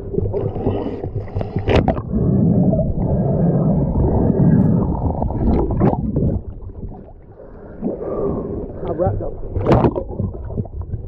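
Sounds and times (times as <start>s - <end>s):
underwater rushing and bubbling: 0.0s - 11.0s.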